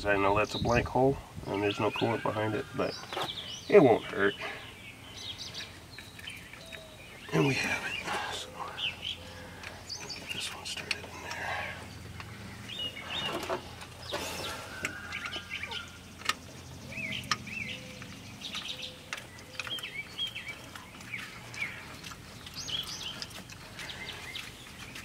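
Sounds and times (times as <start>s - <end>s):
birds singing: 0.0s - 25.0s.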